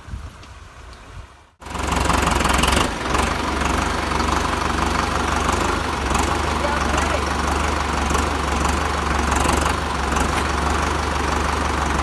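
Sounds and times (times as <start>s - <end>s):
tractor diesel engine running: 1.5s - 12.0s.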